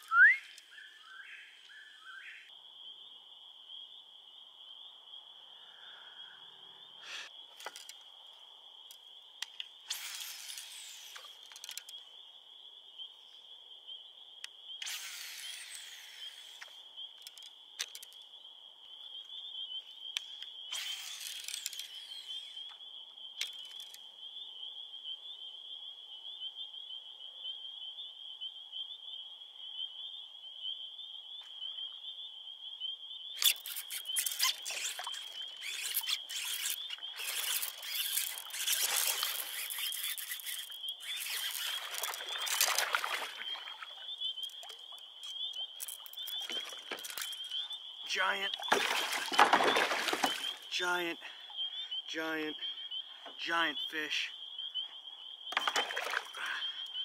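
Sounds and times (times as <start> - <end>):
night insects chorus: 0.0 - 57.0.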